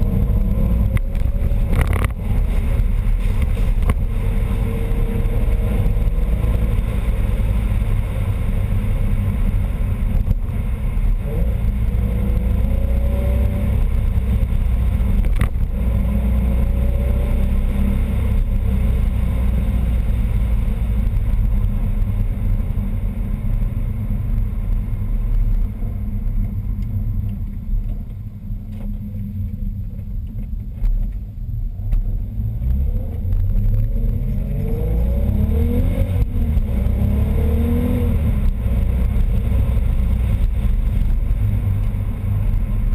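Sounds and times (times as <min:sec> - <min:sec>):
car engine revving: 0:00.0 - 0:30.4, 0:31.7 - 0:42.9.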